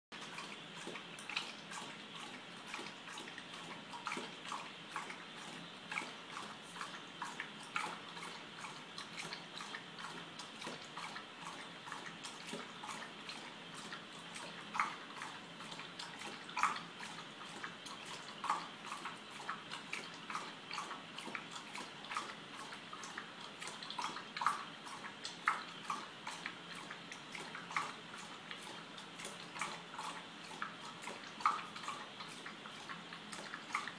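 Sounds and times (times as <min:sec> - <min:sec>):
dog lapping water from metal bowl: 0:00.1 - 0:33.9.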